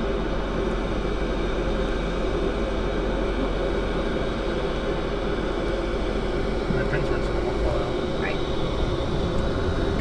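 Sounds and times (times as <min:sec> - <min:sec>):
engine rumbling hum: 0:00.0 - 0:10.0.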